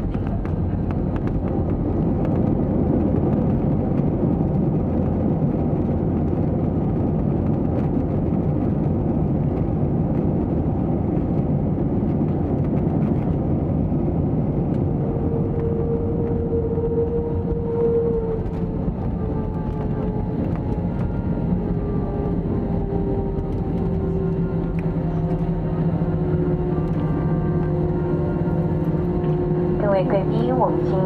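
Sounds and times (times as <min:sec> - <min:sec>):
jet engine rumble in cabin: 0:00.0 - 0:31.0
steady whine: 0:00.0 - 0:31.0.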